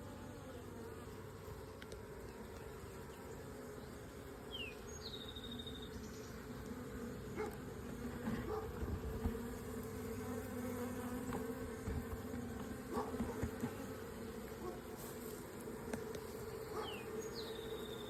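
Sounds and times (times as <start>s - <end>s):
bee swarm buzzing: 0.0s - 18.0s.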